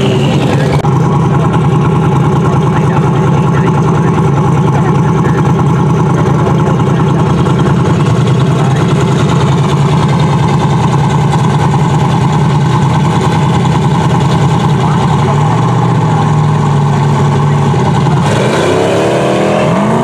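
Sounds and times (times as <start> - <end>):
car engine idling loudly: 0.0 - 20.0.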